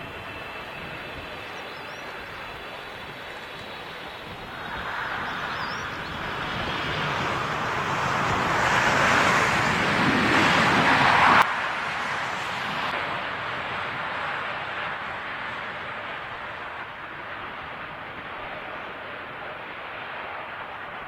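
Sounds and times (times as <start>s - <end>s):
jet airliner engine noise: 0.0s - 21.0s
rush of wind: 0.0s - 21.0s.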